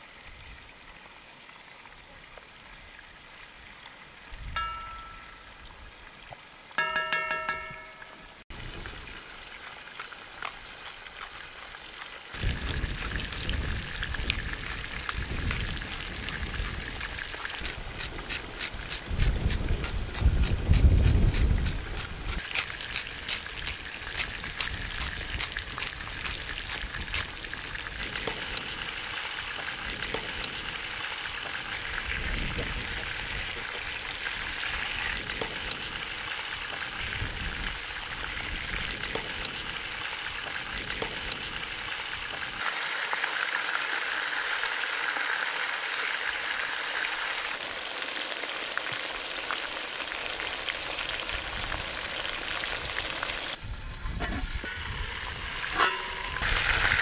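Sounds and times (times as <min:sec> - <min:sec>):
chicken sizzling in oil: 0:08.5 - 0:57.0.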